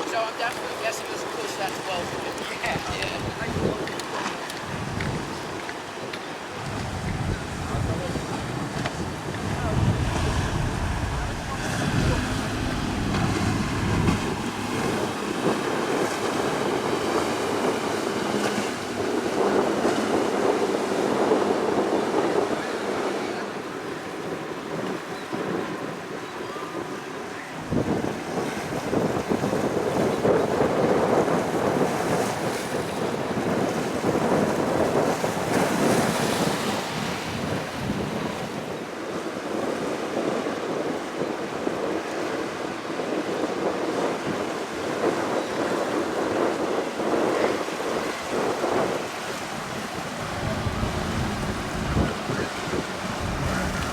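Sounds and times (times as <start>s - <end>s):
surf and choppy waves: 0.0s - 53.9s
wind buffeting microphone: 0.0s - 53.9s.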